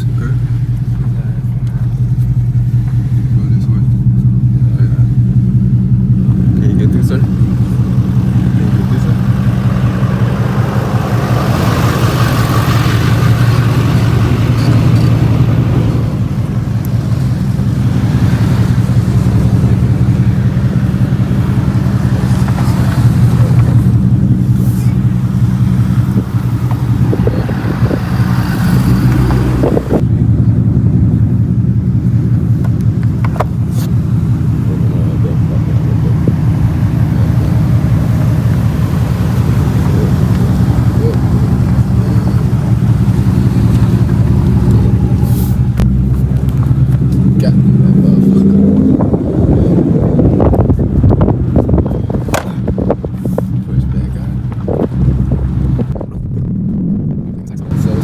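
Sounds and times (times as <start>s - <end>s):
car engine and exhaust running: 0.0s - 58.0s
road and wind noise: 0.0s - 58.0s.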